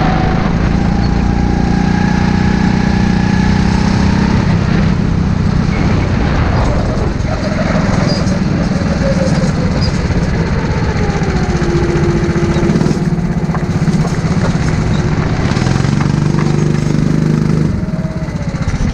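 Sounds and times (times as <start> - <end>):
go-kart engine running: 0.0 - 18.9.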